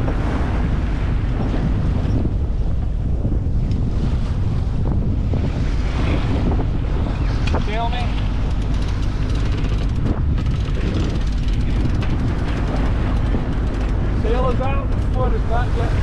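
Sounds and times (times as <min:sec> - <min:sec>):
water rushing along hull: 0:00.0 - 0:16.0
wind buffeting microphone: 0:00.0 - 0:16.0.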